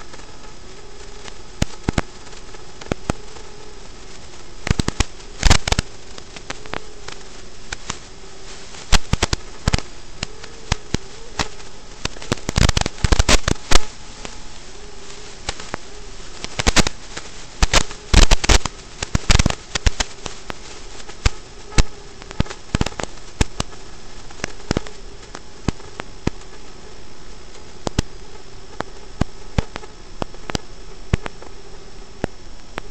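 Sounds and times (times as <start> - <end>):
faint wavering hum: 0.0 - 32.9
sharp crackling pops: 0.0 - 32.9.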